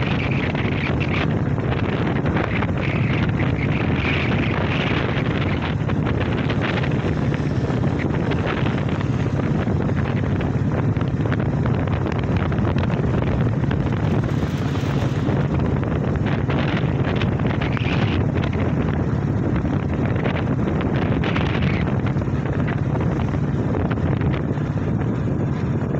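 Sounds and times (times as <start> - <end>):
motorcycle engine: 0.0 - 25.9
tyres on road: 0.0 - 25.9
wind buffeting microphone: 0.0 - 25.9.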